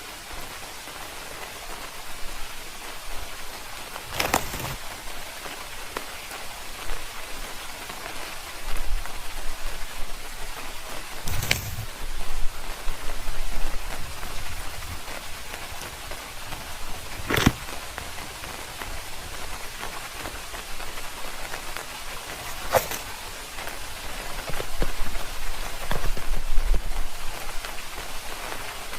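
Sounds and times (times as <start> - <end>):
rain pattering: 0.0 - 28.9.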